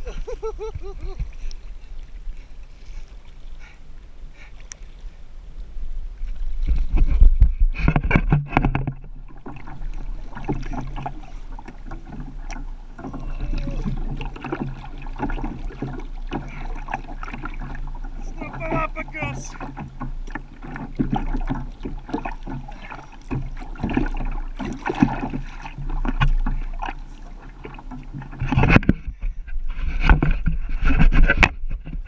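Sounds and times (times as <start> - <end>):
water slapping against kayak: 0.0 - 32.0.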